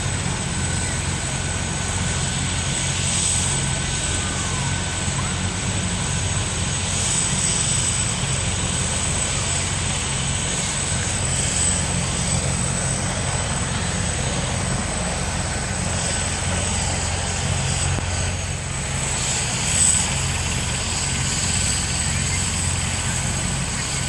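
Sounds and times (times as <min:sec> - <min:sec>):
helicopter rotor chop: 0:00.0 - 0:24.0
high turbine whine: 0:00.0 - 0:24.0.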